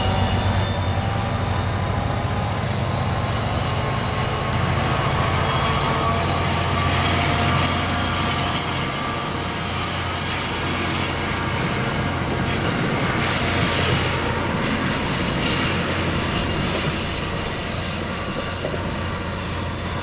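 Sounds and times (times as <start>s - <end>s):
train wheels rolling on rails: 0.0s - 20.0s.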